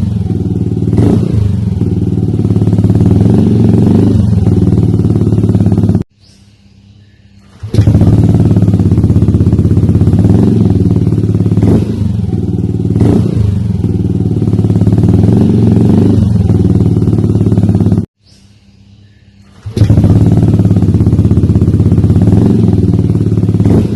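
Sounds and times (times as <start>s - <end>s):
scooter engine idling: 0.0s - 6.0s, 7.5s - 18.1s, 19.5s - 23.9s.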